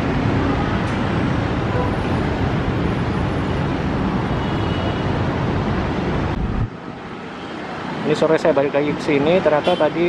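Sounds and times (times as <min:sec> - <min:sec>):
urban traffic rumble: 0:00.0 - 0:10.0.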